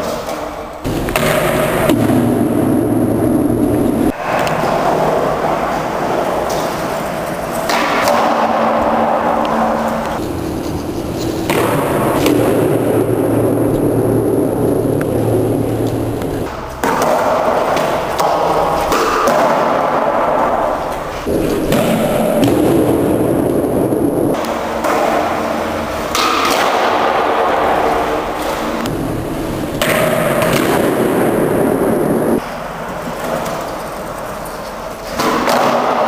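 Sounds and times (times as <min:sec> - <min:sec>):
skateboard clacks: 0:00.0 - 0:36.0
skateboard wheels rolling on concrete: 0:00.0 - 0:36.0.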